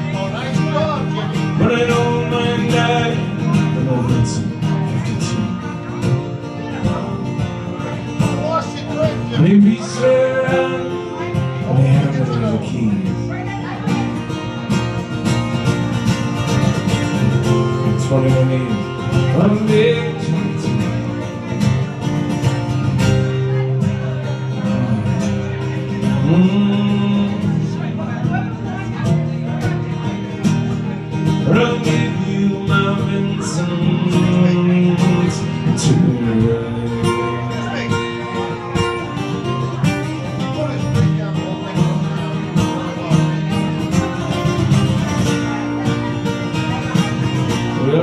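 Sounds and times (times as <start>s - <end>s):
strummed acoustic guitar: 0.0s - 48.0s.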